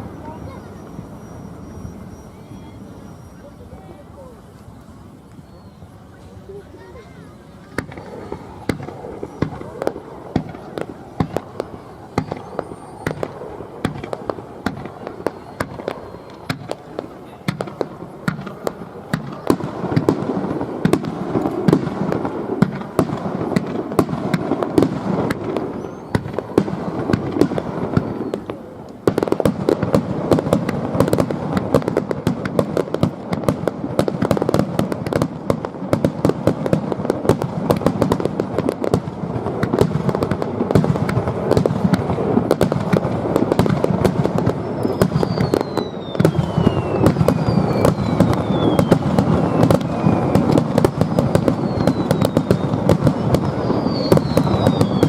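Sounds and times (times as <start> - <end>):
falling firework whistles: 0.0 - 55.0
fireworks crackling: 0.0 - 55.0.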